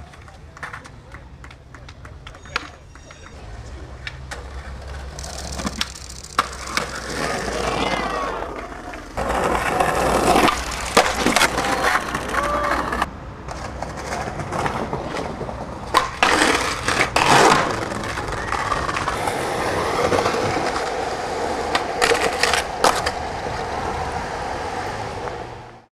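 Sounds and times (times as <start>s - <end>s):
skateboard deck clacking: 0.0s - 25.8s
skateboard wheels rolling on stone: 0.0s - 25.9s.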